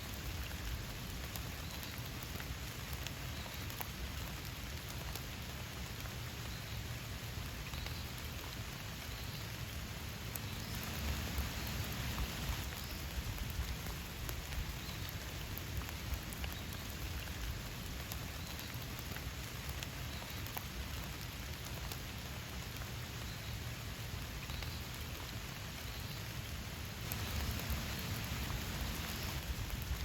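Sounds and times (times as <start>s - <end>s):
raindrops ticking close by: 0.0s - 30.0s
steady rain falling: 0.0s - 30.0s.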